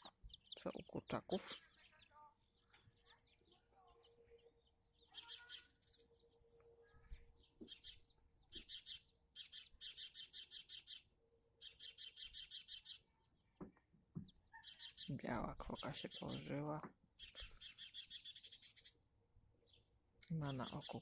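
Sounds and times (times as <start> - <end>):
faint bird chirping: 0.0 - 21.0.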